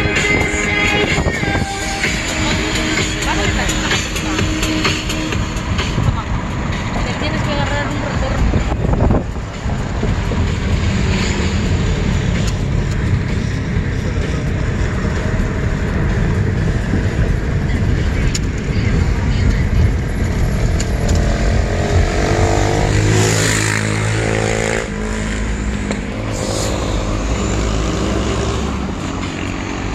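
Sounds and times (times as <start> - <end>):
car engine hum: 0.0 - 29.9
road and wind noise: 0.0 - 29.9.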